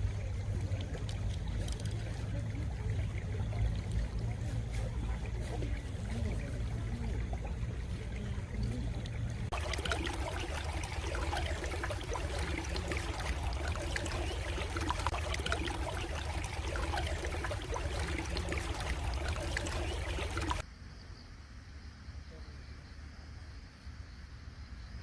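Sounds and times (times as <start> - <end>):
stream trickling: 0.0 - 20.6.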